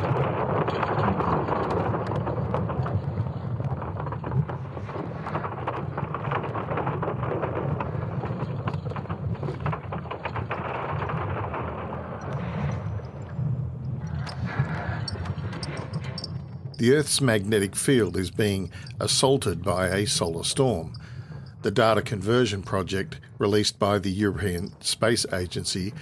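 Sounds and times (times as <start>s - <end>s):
deep continuous rumbling: 0.0s - 26.0s
sharp crackles: 0.0s - 26.0s.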